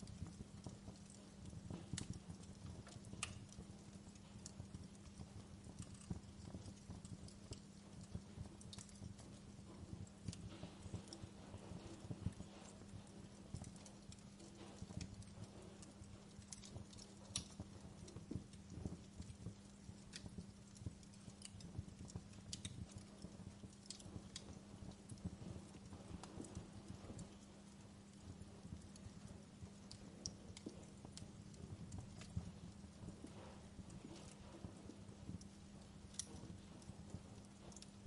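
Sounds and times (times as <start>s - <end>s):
faint steady hum: 0.0s - 38.0s
wood fire crackling: 0.0s - 38.0s.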